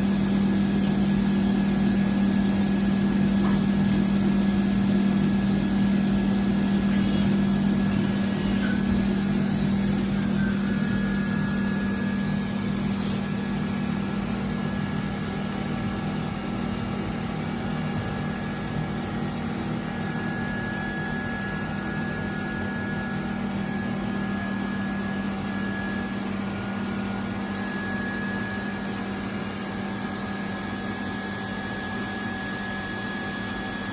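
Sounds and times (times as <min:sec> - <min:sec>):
grinding machine motor hum: 0:00.0 - 0:33.9
high spindle whines: 0:00.0 - 0:33.9.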